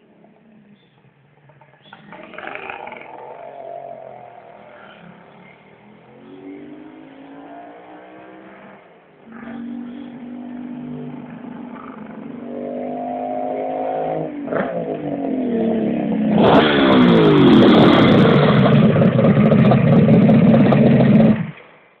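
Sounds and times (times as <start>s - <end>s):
motorcycle approaching through gears: 0.1s - 22.0s.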